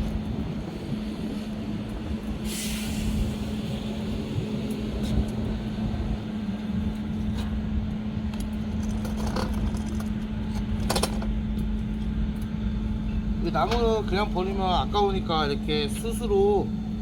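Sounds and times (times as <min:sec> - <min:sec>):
steady low rumble: 0:00.0 - 0:17.0
constant hum: 0:03.0 - 0:17.0.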